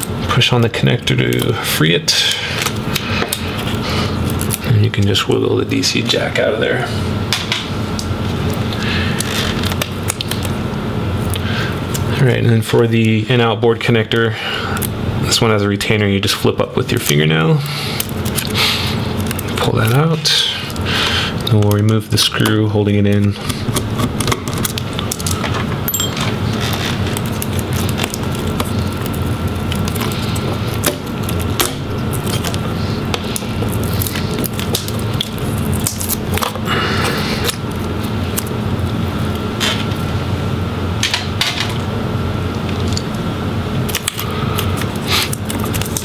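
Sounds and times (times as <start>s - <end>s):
steady hum: 0.0s - 46.0s.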